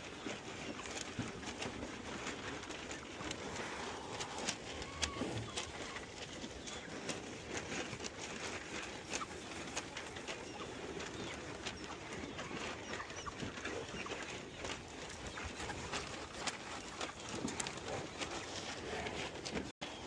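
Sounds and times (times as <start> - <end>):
cattle crunching grain: 0.0 - 20.0
birds calling: 2.9 - 20.0.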